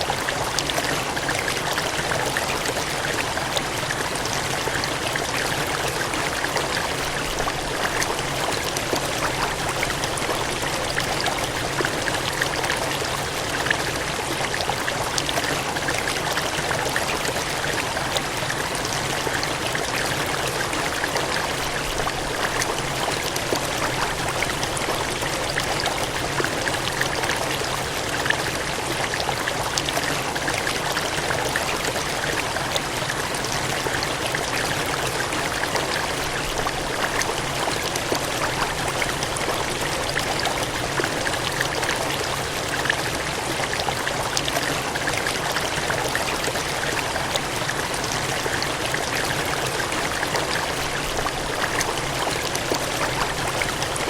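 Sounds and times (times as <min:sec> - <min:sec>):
water gushing and splashing: 0:00.0 - 0:54.0.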